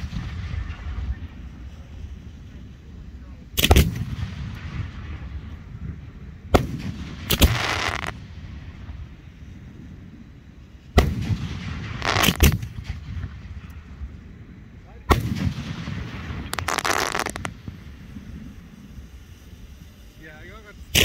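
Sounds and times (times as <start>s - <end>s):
firework bangs: 0.0s - 20.2s
crackling firework hiss: 0.0s - 21.0s.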